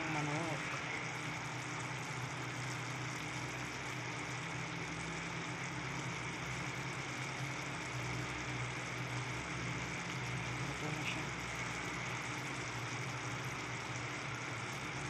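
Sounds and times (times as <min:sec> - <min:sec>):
food simmering in a wok: 0:00.0 - 0:15.0
low motor hum: 0:00.0 - 0:15.0.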